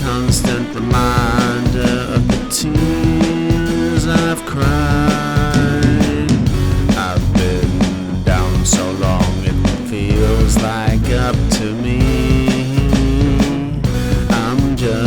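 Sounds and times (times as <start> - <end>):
bass: 0.0 - 15.0
distorted electric guitar: 0.0 - 15.0
drums: 0.0 - 15.0
organ: 0.0 - 15.0.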